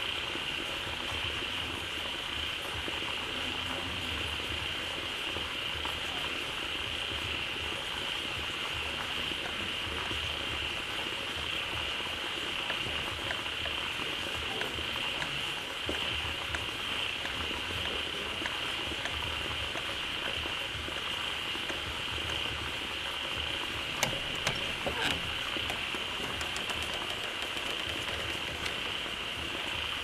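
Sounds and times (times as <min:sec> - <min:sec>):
frogs trilling: 0:00.0 - 0:30.0
running water: 0:00.0 - 0:30.0.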